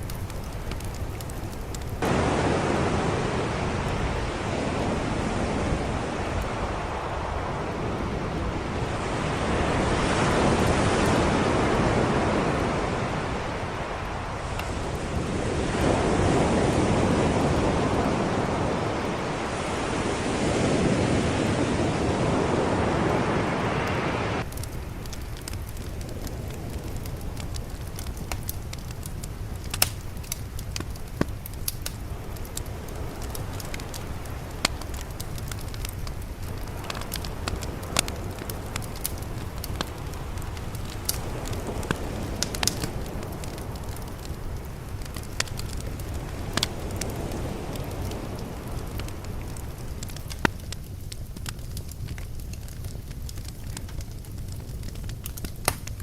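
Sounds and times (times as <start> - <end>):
sea waves washing in: 0.0 - 29.7, 32.0 - 50.3
fire crackling: 0.0 - 56.0.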